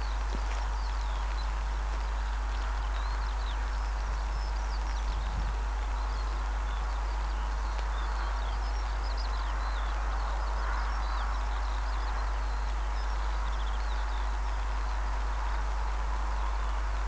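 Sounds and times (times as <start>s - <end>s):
small birds chirping and trilling: 0.0s - 15.6s
steady low rumble: 0.0s - 17.0s.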